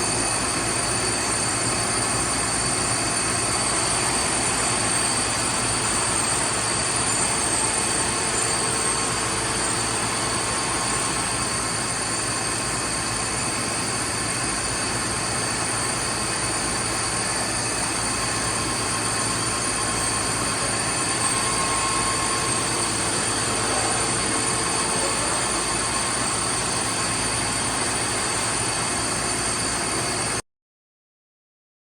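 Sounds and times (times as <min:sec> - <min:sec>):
boring mill humming and whining: 0:00.0 - 0:30.4.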